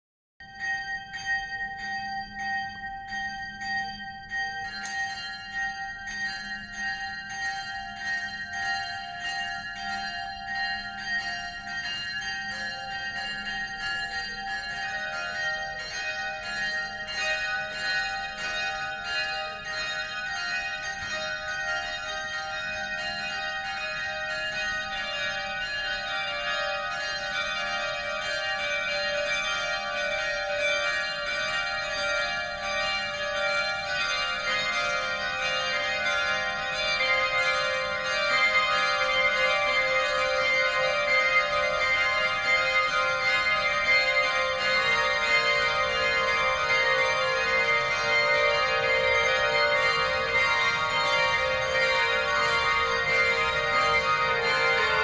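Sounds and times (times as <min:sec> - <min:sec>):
church bells ringing: 0:00.4 - 0:55.0.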